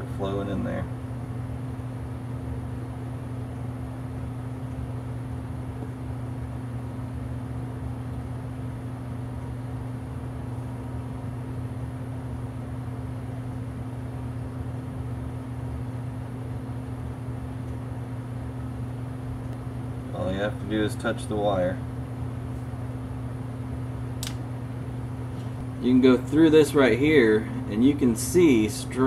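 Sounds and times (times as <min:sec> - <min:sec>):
soldering gun humming: 0:00.0 - 0:29.0.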